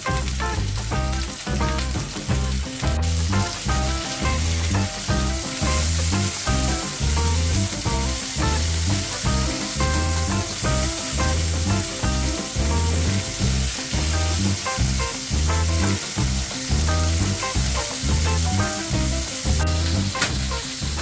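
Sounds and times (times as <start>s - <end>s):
background music with bass beat: 0.0s - 21.0s
burger patties sizzling in oil: 0.0s - 21.0s.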